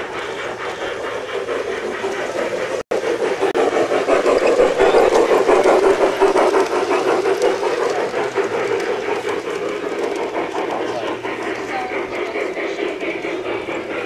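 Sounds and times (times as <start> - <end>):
model train running hum: 0.0 - 14.0
wheels clicking over rails: 0.0 - 14.0.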